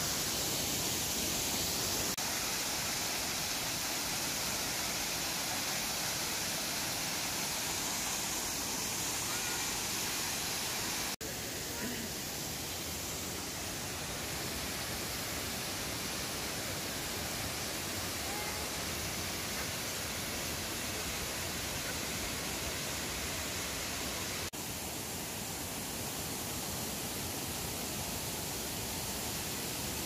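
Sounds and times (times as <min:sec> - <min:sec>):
waterfall rushing: 0:00.0 - 0:24.5.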